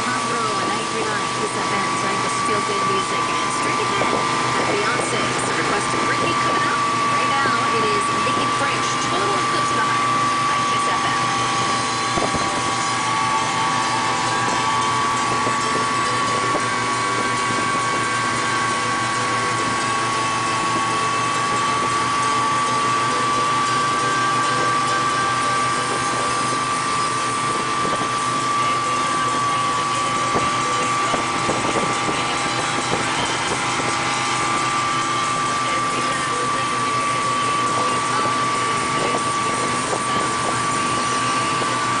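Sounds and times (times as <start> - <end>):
boat engine whining: 0.0 - 42.0
churning wake water: 0.0 - 42.0.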